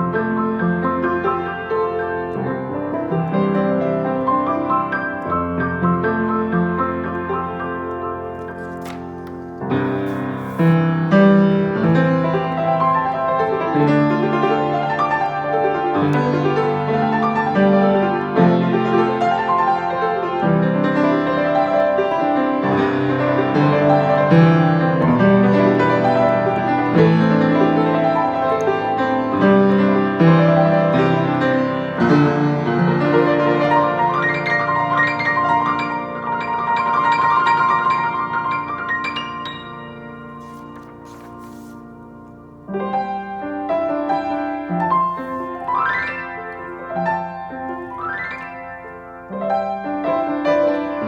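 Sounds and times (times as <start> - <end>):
piano playing: 0.0 - 51.0.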